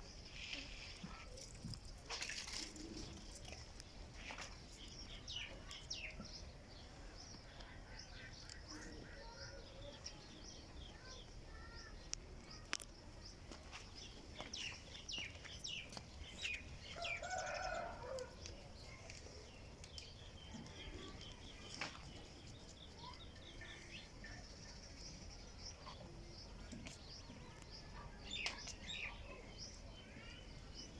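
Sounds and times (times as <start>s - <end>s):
small birds chirping: 0.0s - 30.9s.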